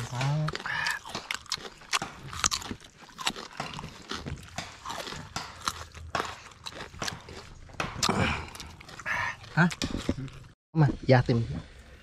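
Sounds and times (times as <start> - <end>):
chewing noodles: 0.0 - 10.6.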